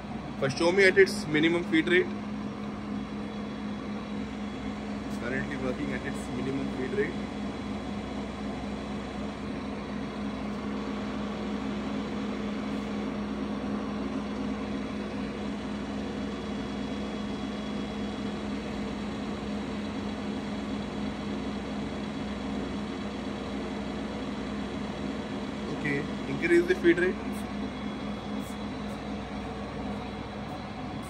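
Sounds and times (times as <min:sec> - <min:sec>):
lathe running hum: 0:00.0 - 0:31.0.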